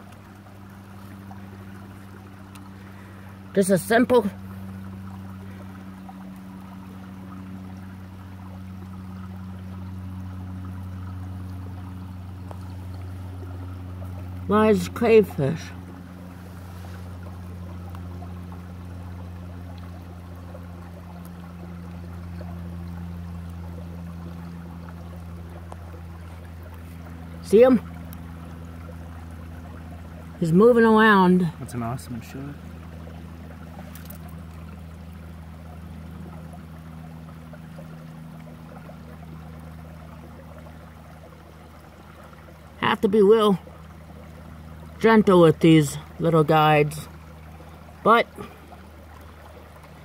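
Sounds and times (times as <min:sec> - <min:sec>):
creek water running: 0:00.0 - 0:50.0
steady low hum: 0:00.0 - 0:50.0.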